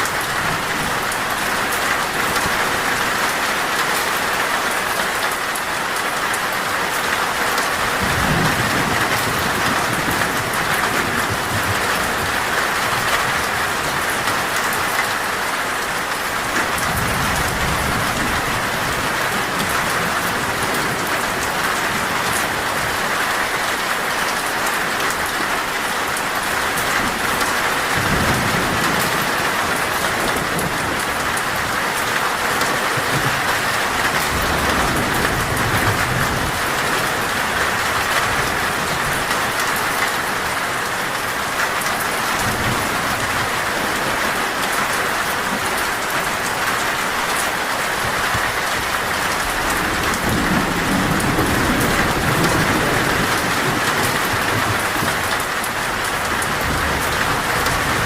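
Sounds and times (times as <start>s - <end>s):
heavy rain on a metal roof: 0.0s - 58.0s
thunder rumbling: 7.9s - 15.0s, 15.7s - 23.7s, 26.3s - 58.0s.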